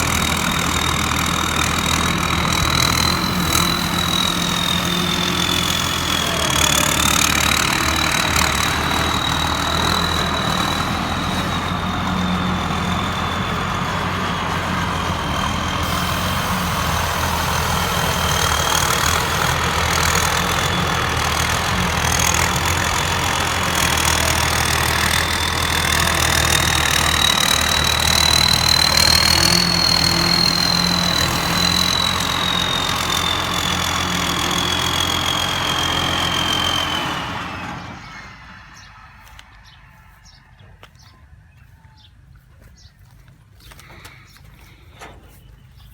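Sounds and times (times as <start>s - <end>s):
heavy diesel engine running: 0.0s - 41.1s.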